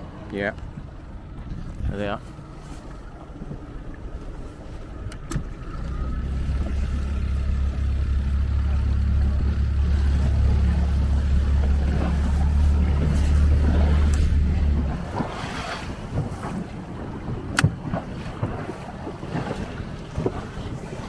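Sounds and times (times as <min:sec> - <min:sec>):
motorboat engine droning: 0:00.0 - 0:21.0.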